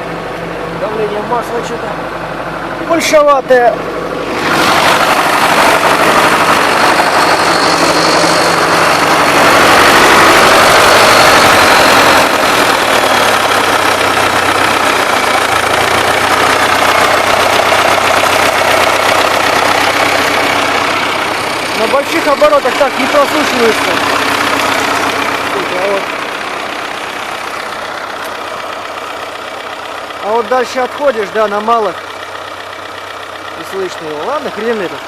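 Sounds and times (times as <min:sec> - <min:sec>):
diesel tractor engine running: 0:00.0 - 0:35.0
engine knocking: 0:00.0 - 0:35.0.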